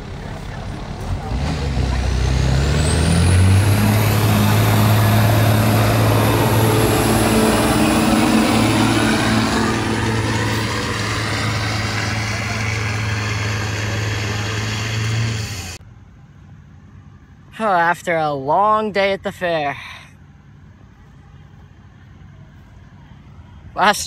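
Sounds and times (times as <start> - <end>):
diesel truck engine drone: 0.0 - 24.0.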